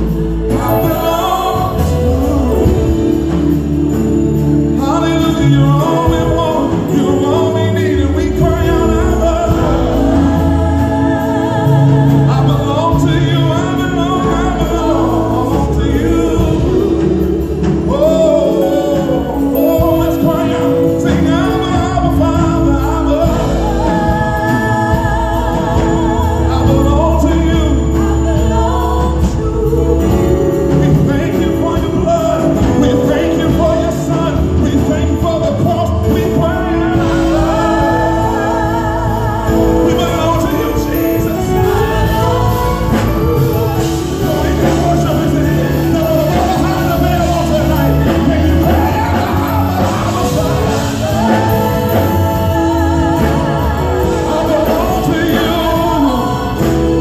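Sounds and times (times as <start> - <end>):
backing singers: 0.0 - 57.0
instrumental accompaniment: 0.0 - 57.0
man singing lead: 0.0 - 57.0.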